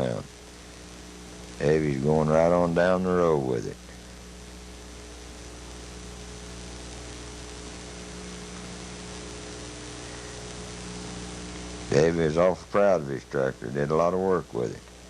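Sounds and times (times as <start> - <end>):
electrical mains hum: 0.0 - 15.0
even hiss: 0.0 - 15.0.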